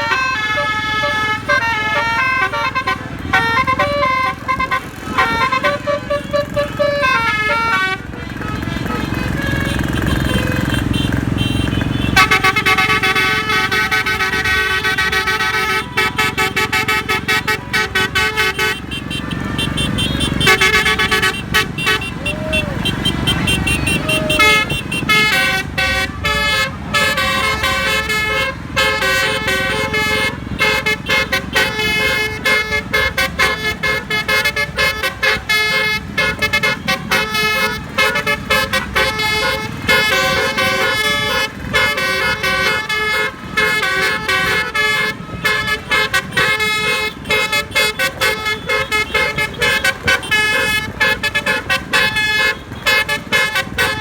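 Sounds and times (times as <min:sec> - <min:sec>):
bus air horn melody: 0:00.0 - 0:54.0
vehicle rumble: 0:00.0 - 0:54.0.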